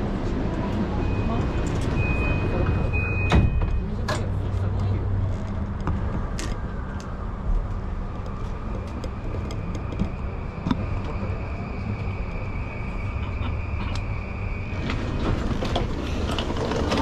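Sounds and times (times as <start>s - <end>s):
train interior low rumble: 0.0s - 17.0s.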